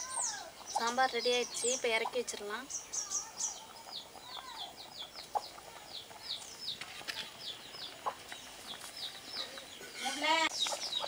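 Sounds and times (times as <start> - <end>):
birds chirping: 0.0 - 11.0
lower bird calls: 0.0 - 11.0.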